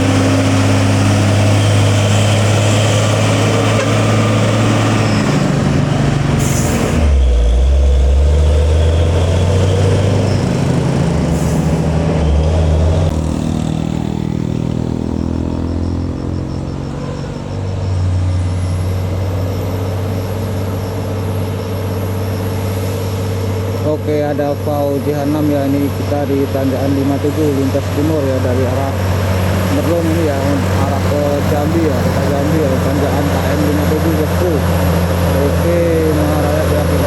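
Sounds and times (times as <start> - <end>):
diesel trucks labouring uphill: 0.0 - 37.0.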